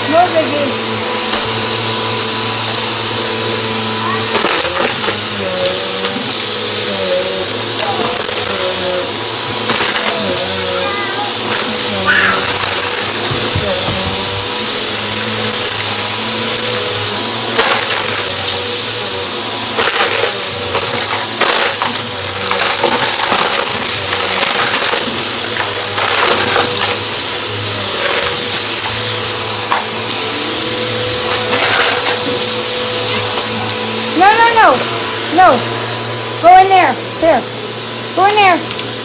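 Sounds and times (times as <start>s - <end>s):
debris crackling in vacuum: 0.0s - 39.0s
vacuum cleaner running: 0.0s - 39.0s.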